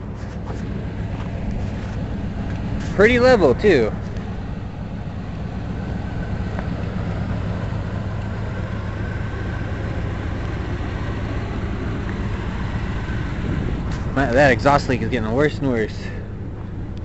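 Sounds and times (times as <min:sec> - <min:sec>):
exhaust leak: 0:00.0 - 0:17.0
motorhome engine running: 0:00.0 - 0:17.0.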